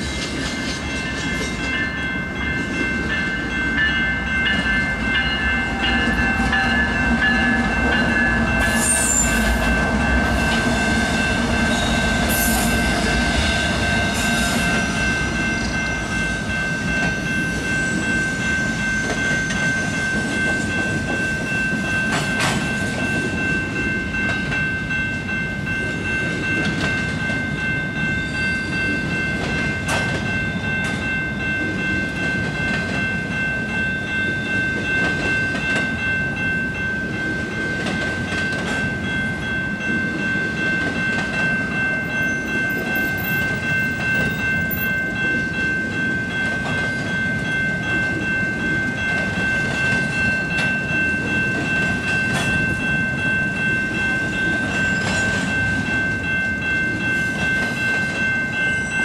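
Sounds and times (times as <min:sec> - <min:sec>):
freight train rumbling past: 0:00.0 - 0:59.0
high-pitched ringing tone: 0:00.0 - 0:59.0.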